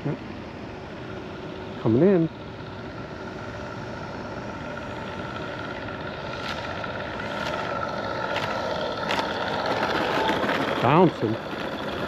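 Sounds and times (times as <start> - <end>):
model plane motor and propeller: 0.0 - 12.0.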